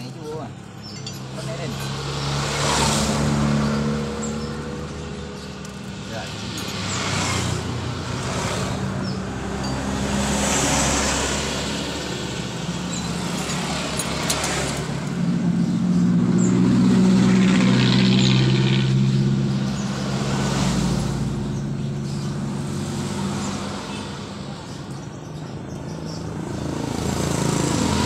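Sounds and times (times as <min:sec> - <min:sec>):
engine running and revving: 0:00.0 - 0:28.0.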